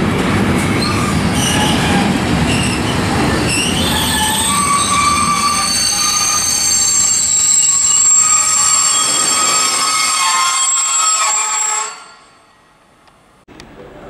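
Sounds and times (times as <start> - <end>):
train rolling rumble: 0.0 - 11.8
train wheels squealing: 0.6 - 12.5.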